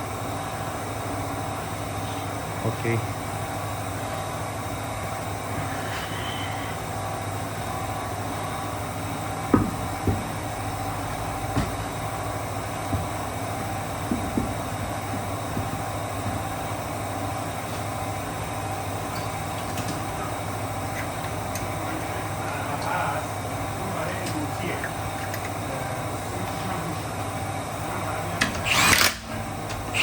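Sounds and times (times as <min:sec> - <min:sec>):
mechanical hum: 0:00.0 - 0:30.0.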